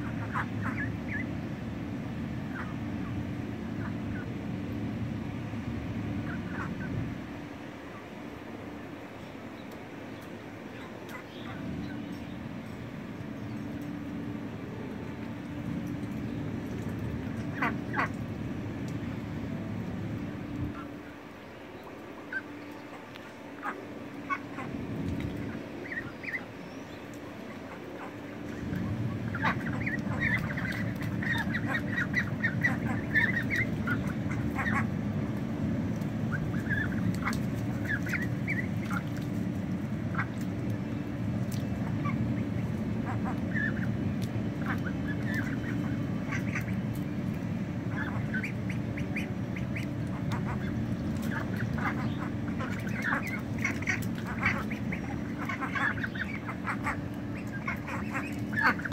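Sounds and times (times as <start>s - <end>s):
ducks quacking: 0.0s - 1.3s, 2.5s - 4.3s, 6.2s - 7.0s, 10.7s - 12.0s, 15.6s - 19.3s, 20.5s - 58.9s
steady low hum: 0.0s - 58.9s.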